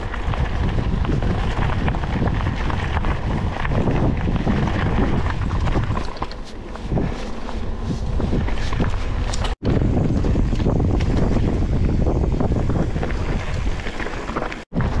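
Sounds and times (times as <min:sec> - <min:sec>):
wind buffeting microphone: 0:00.0 - 0:14.0, 0:14.7 - 0:15.0
bike knocks and rattles: 0:00.0 - 0:15.0.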